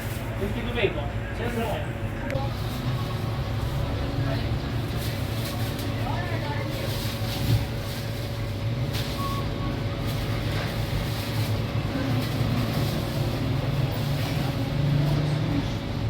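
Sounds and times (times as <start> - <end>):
vehicle engine droning: 2.2 - 16.0.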